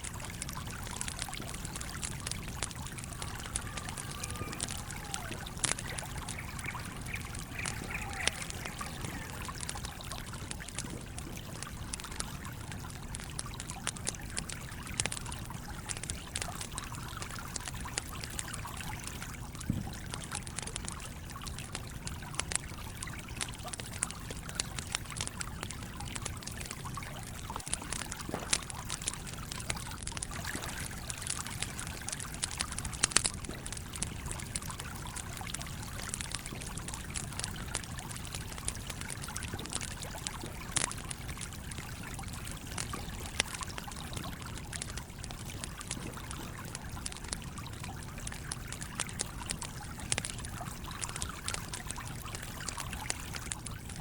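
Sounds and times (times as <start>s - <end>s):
running stream: 0.0s - 54.0s
wood fire crackling: 0.0s - 54.0s.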